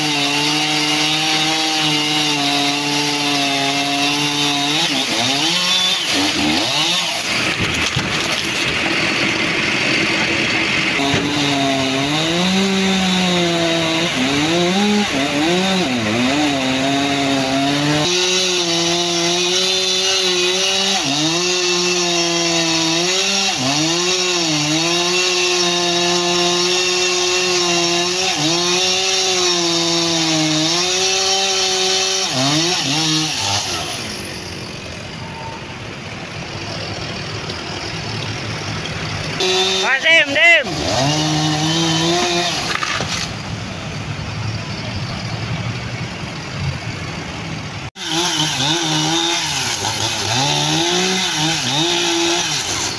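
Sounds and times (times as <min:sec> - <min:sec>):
chainsaw cutting wood: 0:00.0 - 0:34.9, 0:37.4 - 0:43.5, 0:47.9 - 0:52.9.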